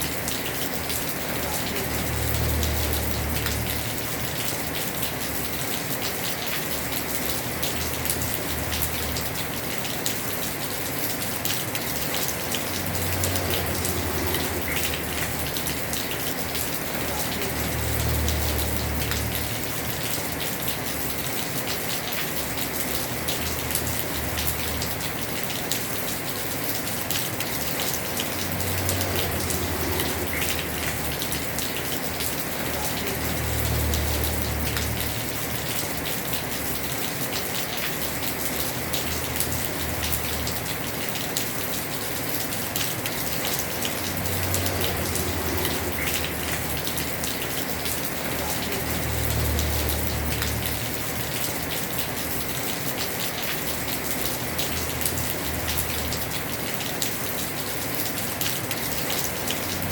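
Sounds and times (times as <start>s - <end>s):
heavy rain on a roof: 0.0s - 59.9s
raindrops ticking: 0.0s - 59.9s.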